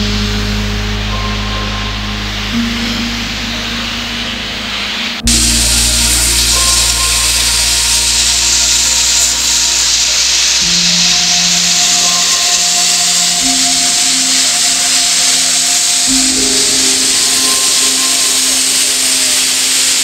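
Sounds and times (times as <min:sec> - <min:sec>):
music of long held tones: 0:00.0 - 0:20.0
water rushing from jets: 0:00.0 - 0:20.0.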